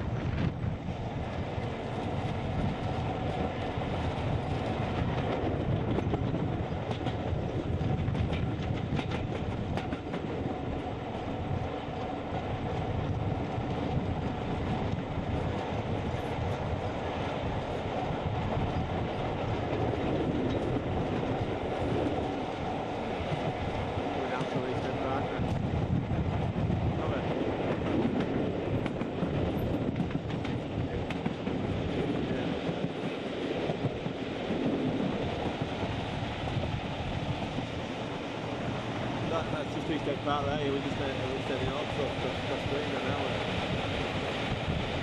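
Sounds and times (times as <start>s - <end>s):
train rumble: 0.0s - 45.0s.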